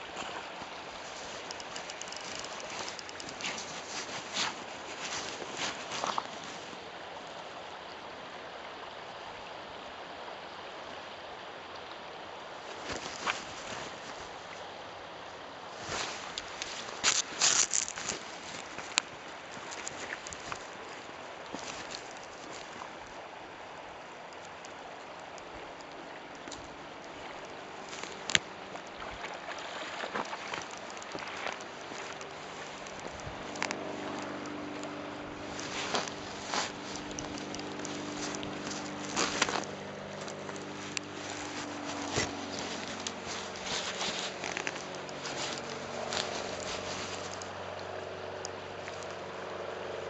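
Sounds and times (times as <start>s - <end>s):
river flowing over stones: 0.0s - 50.0s.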